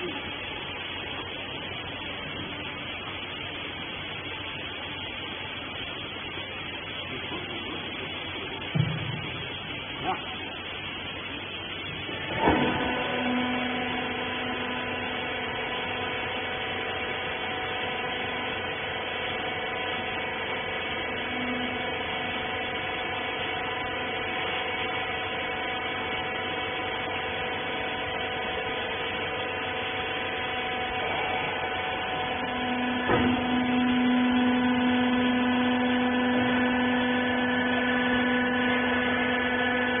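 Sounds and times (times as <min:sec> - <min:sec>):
hydraulic power unit humming: 0:00.0 - 0:40.0.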